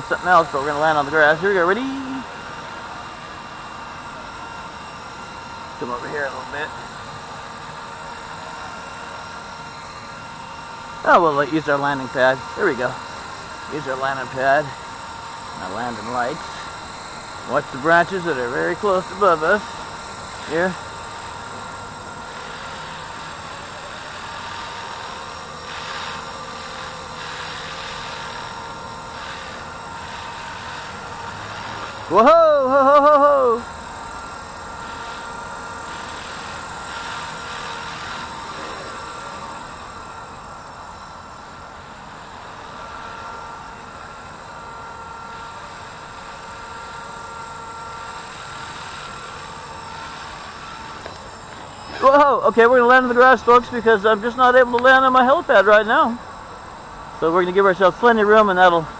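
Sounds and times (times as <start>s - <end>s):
rc helicopter whine: 0.0s - 58.9s.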